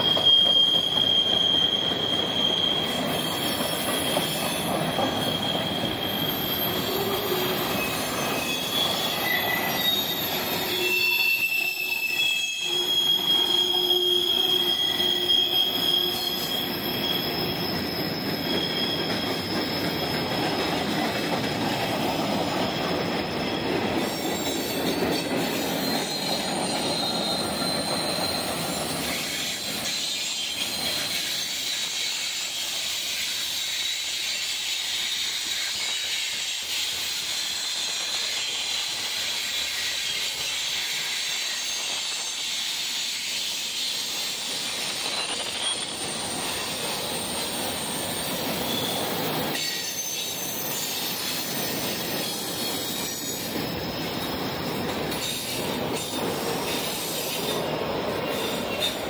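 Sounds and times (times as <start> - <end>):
wheel squeals: 0.0 - 59.0.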